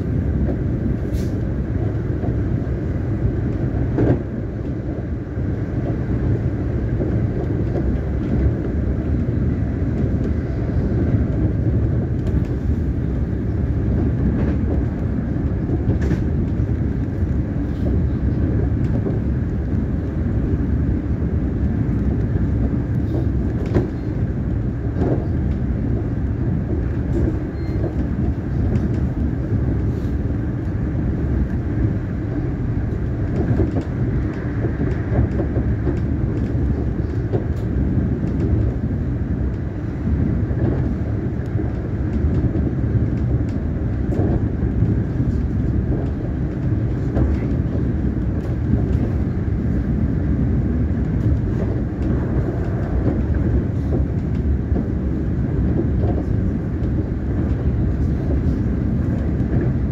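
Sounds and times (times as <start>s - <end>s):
electric train rumbling: 0.0s - 59.9s.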